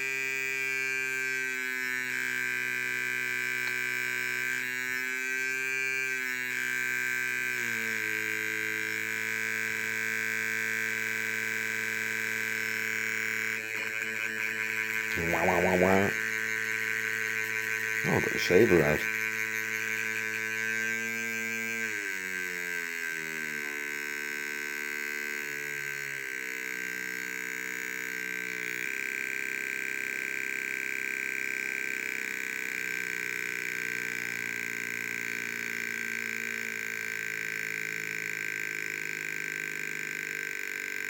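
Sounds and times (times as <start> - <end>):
electronic buzz of several tones: 0.0 - 41.0.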